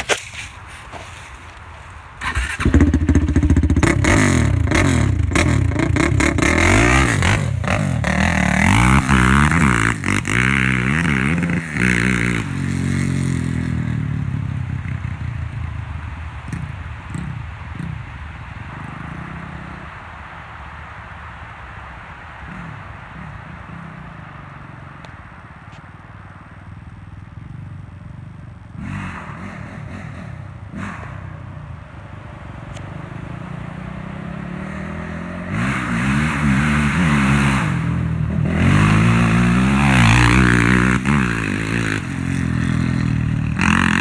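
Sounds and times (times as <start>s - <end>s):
engine idling and revving: 1.5s - 44.0s.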